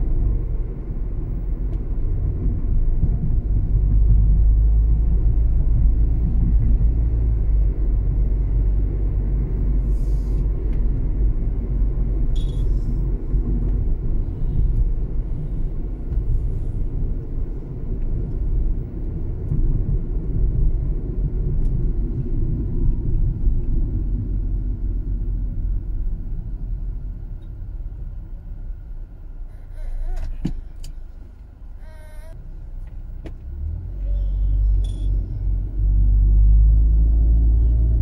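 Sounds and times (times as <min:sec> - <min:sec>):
car interior road rumble: 0:00.0 - 0:38.0.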